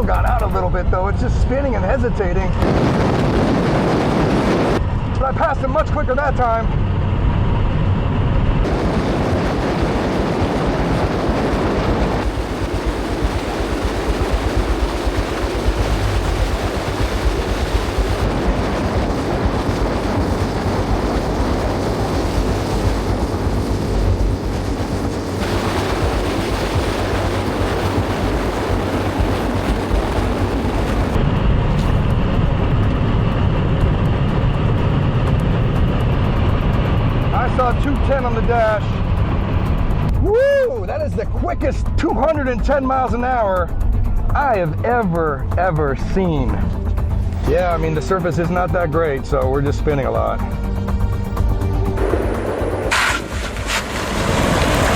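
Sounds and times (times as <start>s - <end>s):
wind and road noise rush: 0.0s - 54.9s.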